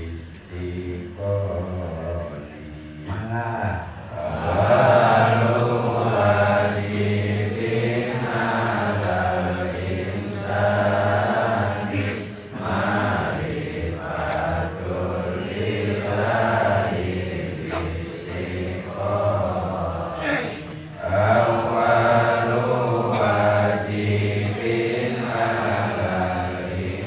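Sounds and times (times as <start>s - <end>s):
men chanting in unison: 0.0s - 27.0s.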